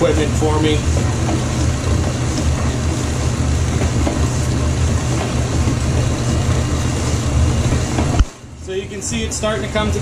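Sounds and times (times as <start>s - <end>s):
stand mixer kneading dough: 0.0s - 10.0s.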